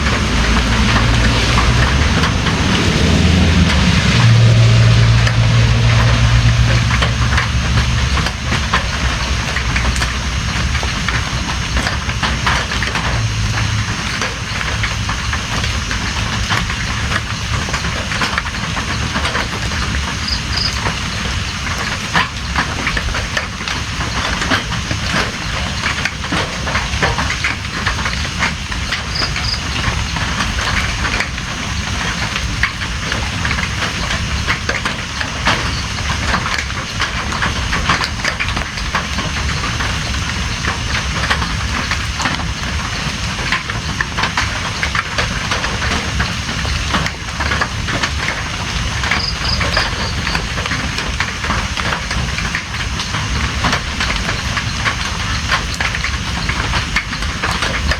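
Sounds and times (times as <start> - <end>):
rain drops ticking on a surface: 0.0 - 57.9.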